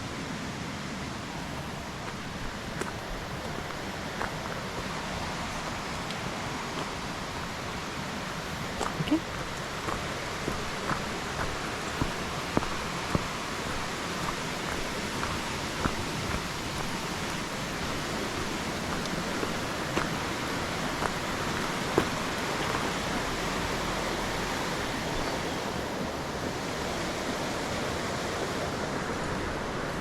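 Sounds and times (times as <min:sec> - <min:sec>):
steady rushing outdoor noise: 0:00.0 - 0:30.0.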